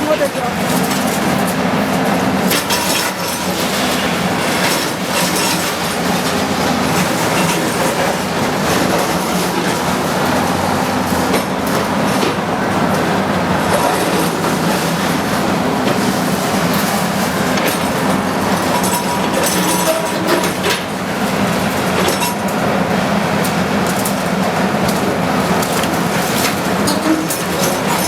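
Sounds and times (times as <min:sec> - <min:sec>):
bulldozer rumbling: 0:00.0 - 0:28.0.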